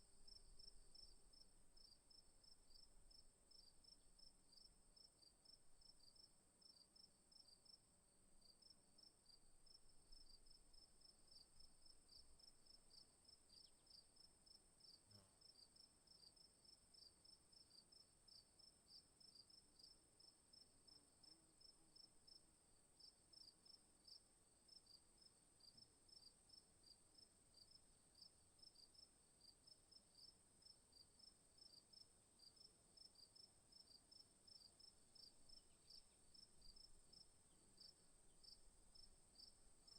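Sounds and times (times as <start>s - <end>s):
insect chorus buzzing and chirping: 0.2s - 7.8s, 8.5s - 22.4s, 23.0s - 39.9s.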